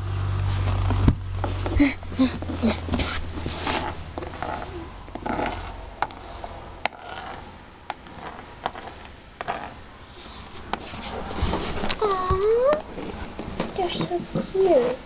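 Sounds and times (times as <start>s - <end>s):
plastic toys scraping on wood: 1.4s - 15.0s.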